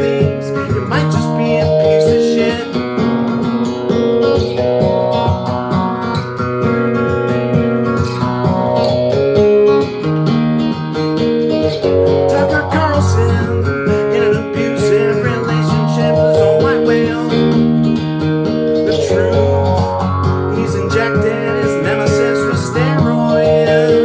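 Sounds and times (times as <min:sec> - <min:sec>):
strummed guitar chords: 0:00.0 - 0:24.0.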